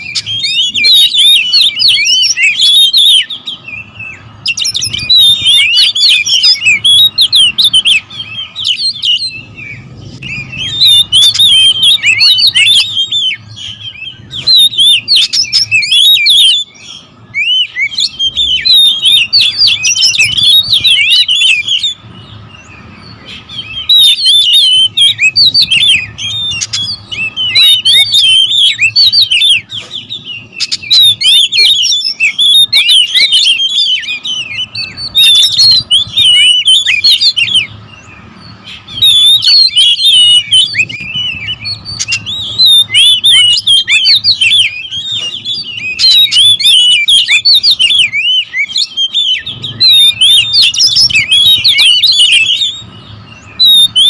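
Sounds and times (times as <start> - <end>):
birds whistling and chirping: 0.0 - 54.0.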